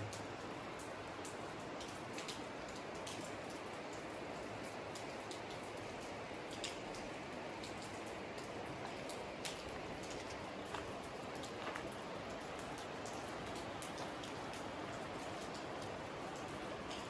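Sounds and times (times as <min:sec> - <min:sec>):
raindrops ticking close by: 0:00.0 - 0:17.0
steady light rain: 0:00.0 - 0:17.0.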